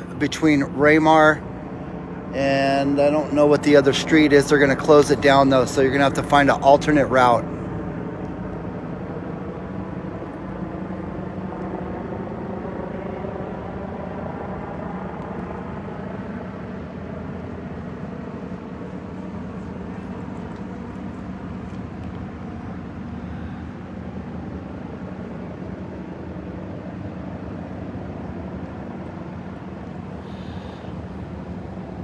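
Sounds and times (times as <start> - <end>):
helicopter engine and rotor drone: 0.0 - 32.0.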